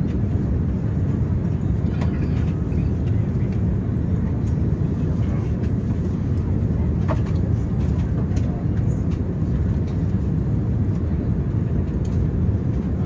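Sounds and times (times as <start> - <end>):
jet engines and airflow rumble: 0.0 - 13.0.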